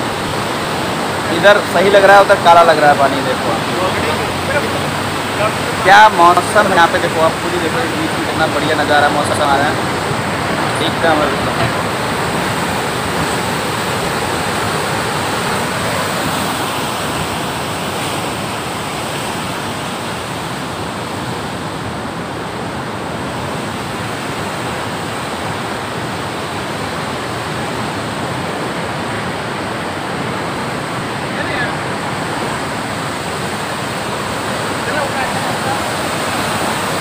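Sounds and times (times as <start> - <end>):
white water rushing: 0.0 - 37.0.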